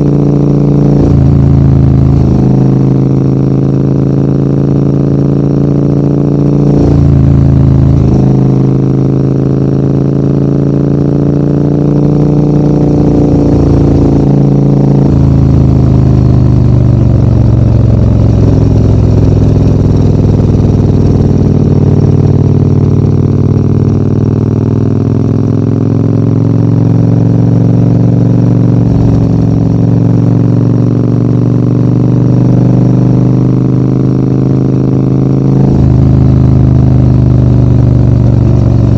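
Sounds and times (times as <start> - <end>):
motorcycle engine under load: 0.0 - 38.9.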